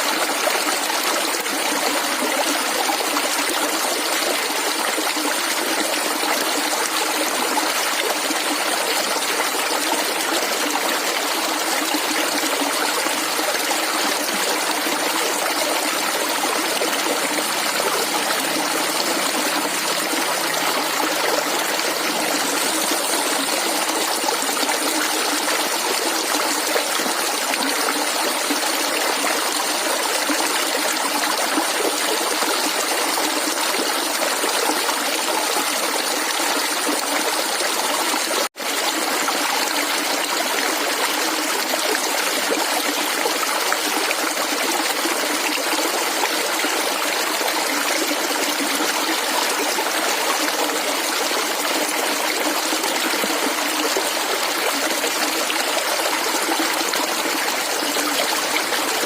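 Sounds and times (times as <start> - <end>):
water gurgling: 0.0 - 59.0.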